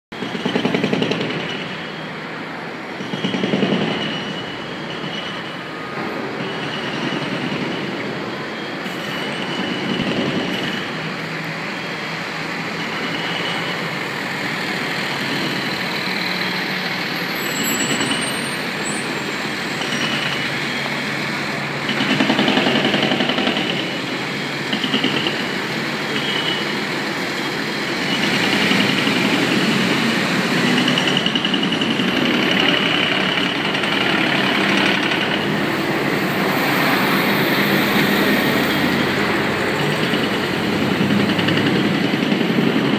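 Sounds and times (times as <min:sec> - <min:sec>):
heavy street traffic roar: 0:00.1 - 0:42.9.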